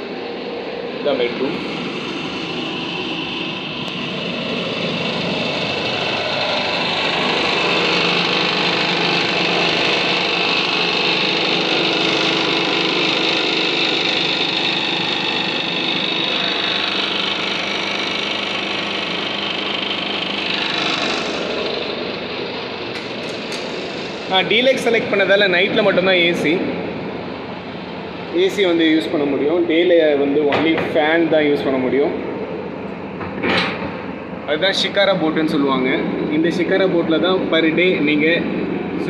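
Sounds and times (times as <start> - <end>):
boat engine droning: 0.0 - 33.2.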